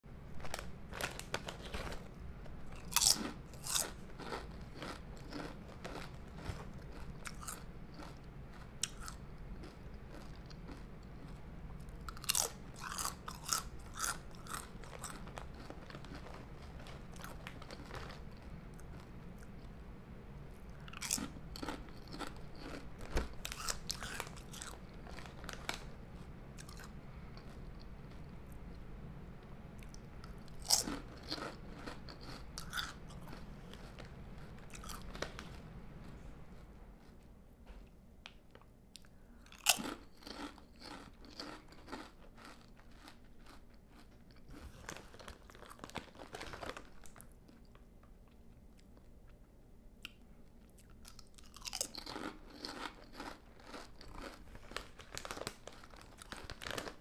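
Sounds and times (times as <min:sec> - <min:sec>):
potato chips crunching: 0:00.3 - 0:19.6, 0:20.7 - 0:25.9, 0:26.6 - 0:28.3, 0:29.8 - 0:36.2, 0:39.0 - 0:47.8, 0:50.1 - 0:57.0.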